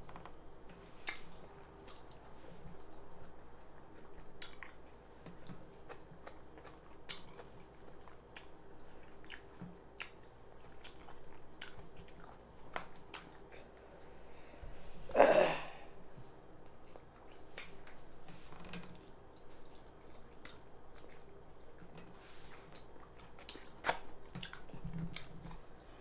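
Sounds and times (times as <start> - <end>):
person chewing with wet clicks: 0.1 - 13.8, 16.6 - 25.9.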